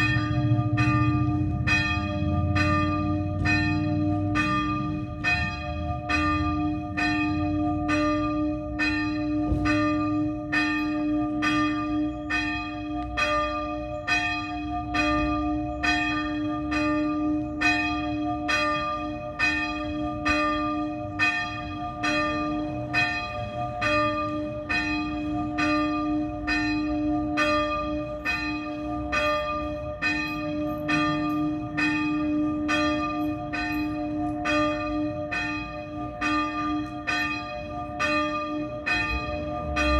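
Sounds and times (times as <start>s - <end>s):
small church bell ringing: 0.0s - 39.9s.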